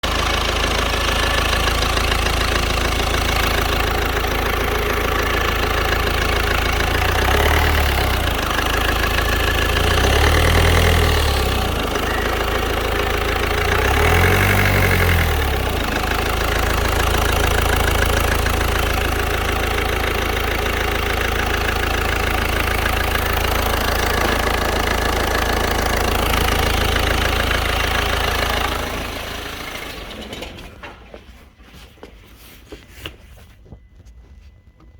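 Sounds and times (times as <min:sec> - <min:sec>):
diesel engine idling and revving: 0:00.0 - 0:31.0.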